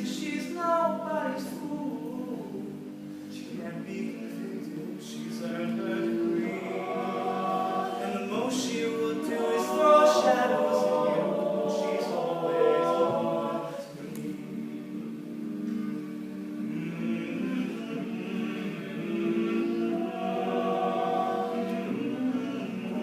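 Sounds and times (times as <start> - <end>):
male a cappella group singing: 0.0 - 23.0.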